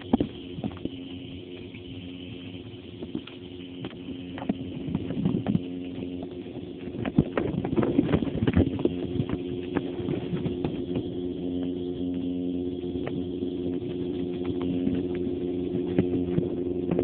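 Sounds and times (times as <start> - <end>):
underwater hum: 0.0 - 17.0.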